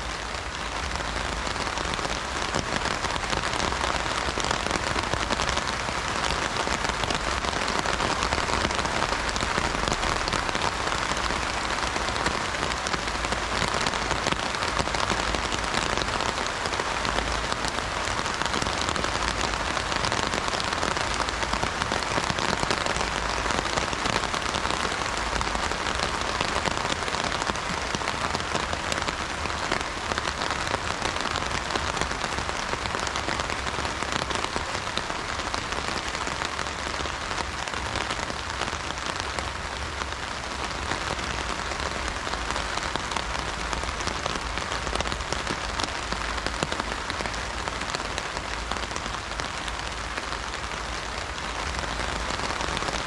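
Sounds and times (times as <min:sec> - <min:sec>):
heavy rain on an umbrella: 0:00.0 - 0:53.0.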